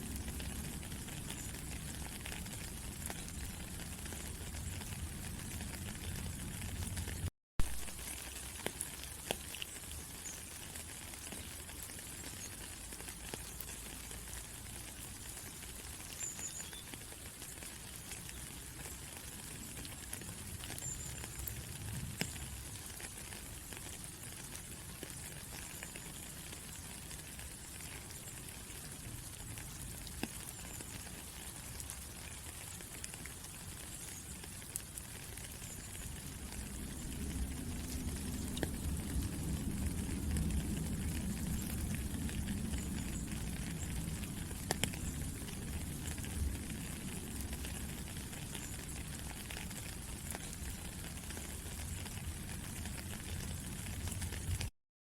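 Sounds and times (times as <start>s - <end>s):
raindrops ticking: 0.0s - 54.7s
steady rain falling: 0.0s - 54.7s.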